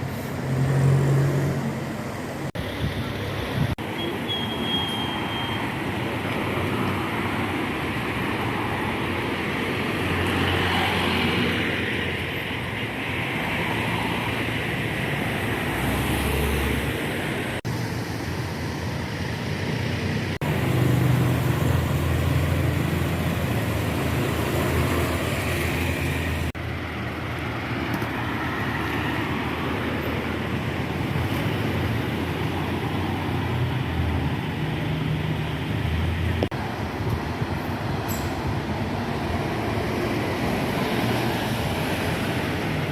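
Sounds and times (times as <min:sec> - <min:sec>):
bus engines running: 0:00.0 - 0:42.9
traffic noise: 0:00.0 - 0:42.9.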